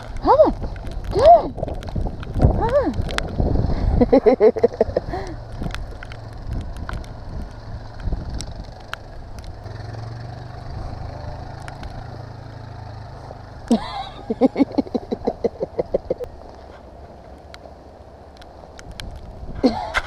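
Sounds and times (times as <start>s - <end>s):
atv engine humming: 0.0s - 20.0s.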